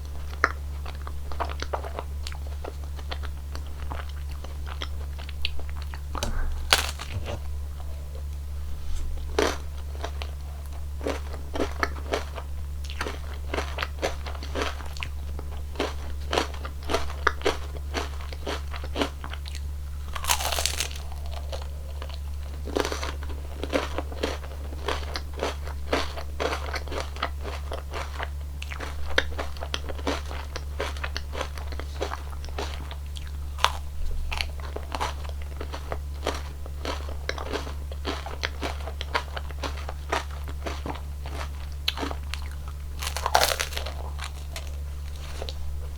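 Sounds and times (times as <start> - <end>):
crunching and chewing ice cream cone: 0.0 - 45.9.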